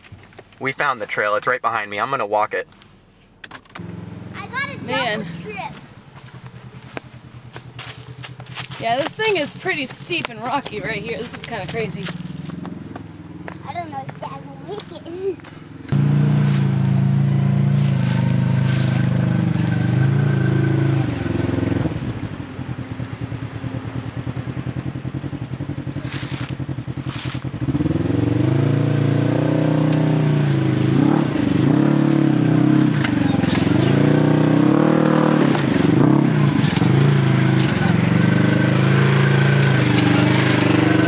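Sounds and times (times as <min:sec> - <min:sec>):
off-road vehicle engine revving: 0:03.7 - 0:41.0.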